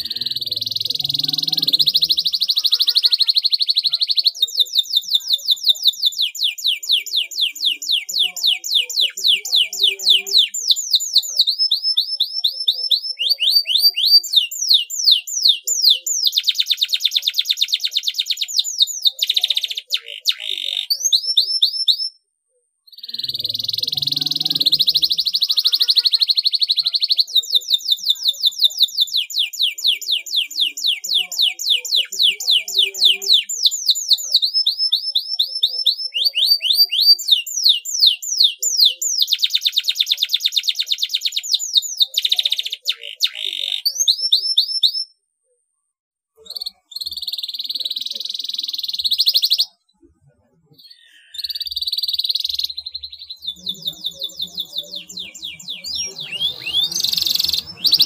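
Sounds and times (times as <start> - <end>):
canary singing trills: 0.0 - 22.2, 22.8 - 45.2, 46.4 - 58.0.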